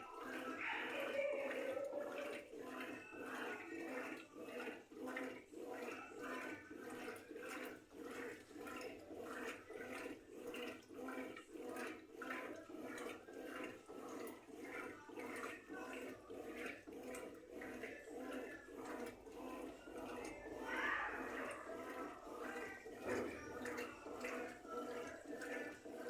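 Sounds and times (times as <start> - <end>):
washing machine sloshing clothes: 0.0 - 26.0.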